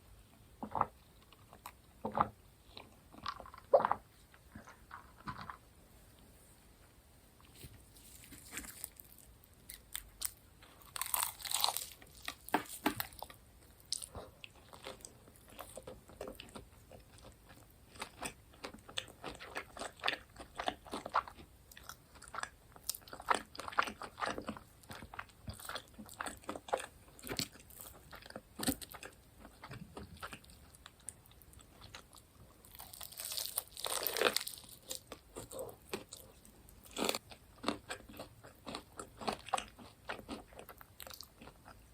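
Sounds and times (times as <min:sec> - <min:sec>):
crunchy chewing of fried food: 0:00.6 - 0:05.6, 0:08.0 - 0:41.9.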